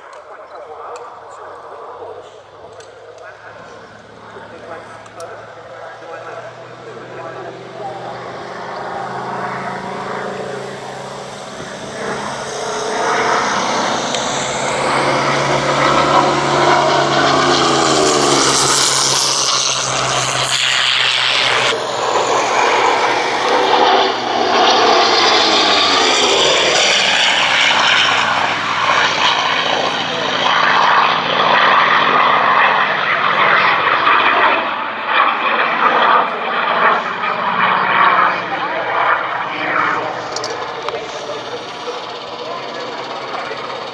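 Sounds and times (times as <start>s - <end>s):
propeller aircraft fly-past: 0.0s - 43.9s.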